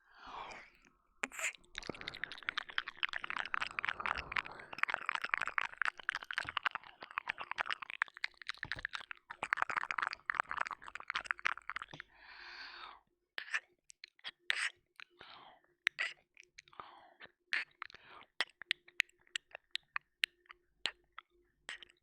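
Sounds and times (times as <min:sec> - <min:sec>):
wet mouth clicks and smacks: 0:00.6 - 0:12.1, 0:13.4 - 0:22.0.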